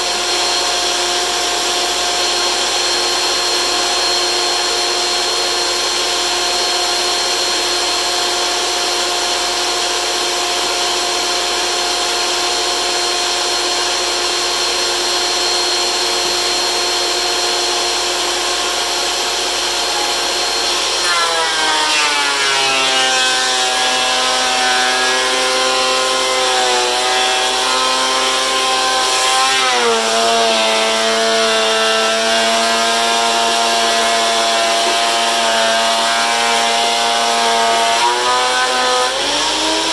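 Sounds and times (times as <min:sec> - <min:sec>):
thickness planer whining: 0:00.0 - 0:39.9.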